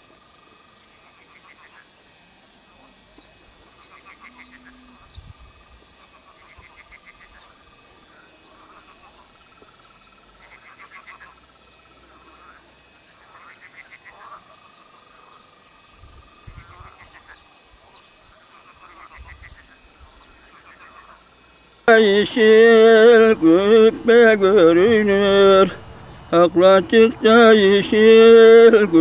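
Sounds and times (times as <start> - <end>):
frogs croaking: 0.0 - 29.0
faint bird chirps: 0.6 - 26.5.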